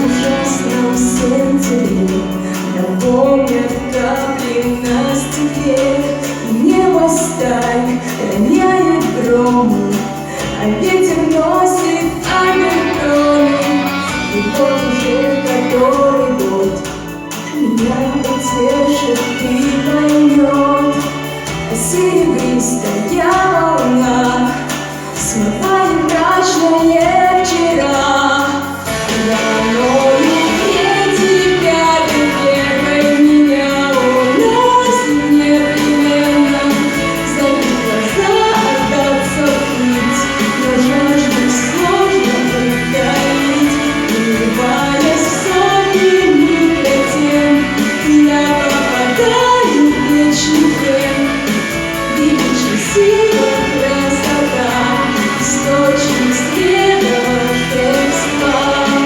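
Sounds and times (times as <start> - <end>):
band with guitar: 0.0 - 59.0
woman singing: 0.0 - 59.0.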